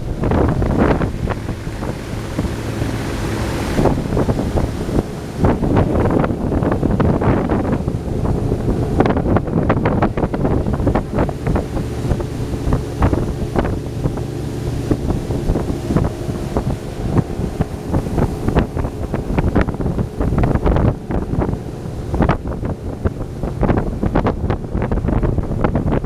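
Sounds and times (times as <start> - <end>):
hull slapping water: 0.0 - 26.0
outboard motor drone: 0.0 - 26.0
wind buffeting microphone: 0.0 - 26.0.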